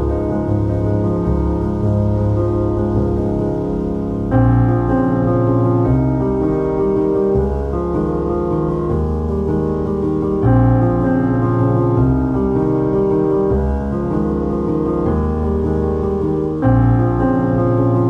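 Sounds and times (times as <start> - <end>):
keyboard chords: 0.0 - 18.0
steady bass line: 0.0 - 18.0.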